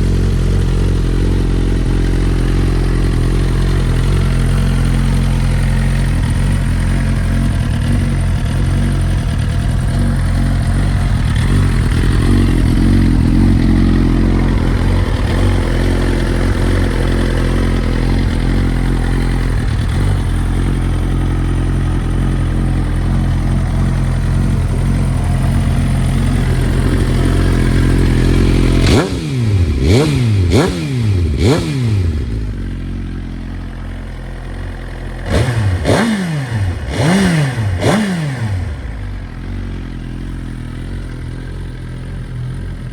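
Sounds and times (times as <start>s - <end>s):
engine revving: 0.0s - 39.5s
motorcycle engine idling: 0.0s - 42.9s.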